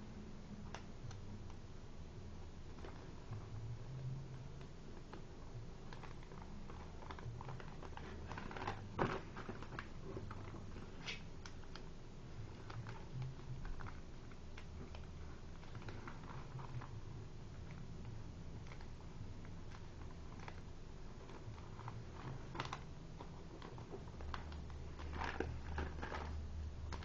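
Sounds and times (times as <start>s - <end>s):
paper being folded: 2.7s - 27.0s.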